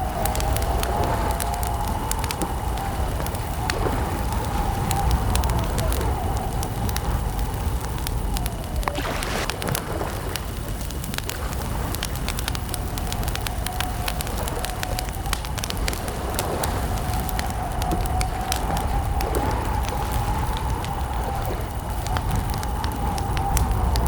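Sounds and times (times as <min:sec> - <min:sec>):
campfire crackling: 0:00.0 - 0:24.0
low rumble: 0:00.0 - 0:24.0.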